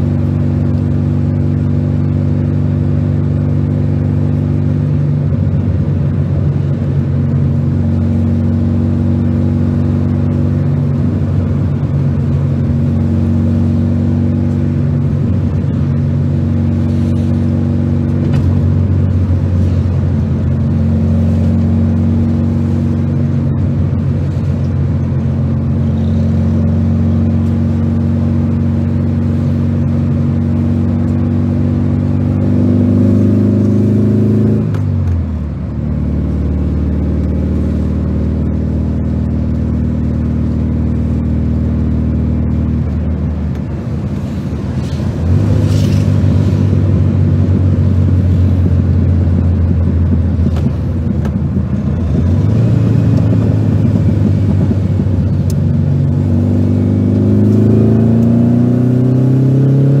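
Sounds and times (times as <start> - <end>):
car engine running from inside: 0.0 - 60.0.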